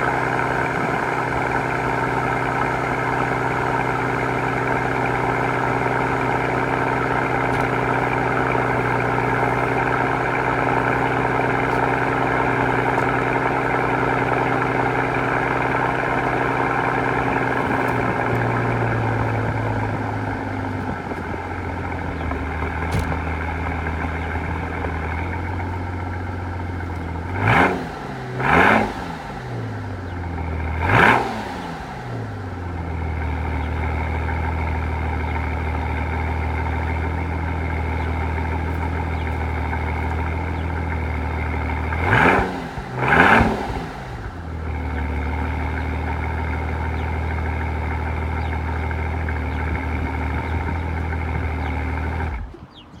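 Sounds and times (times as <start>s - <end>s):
car engine idling: 0.0s - 53.0s
engine throttle blips: 0.0s - 53.0s.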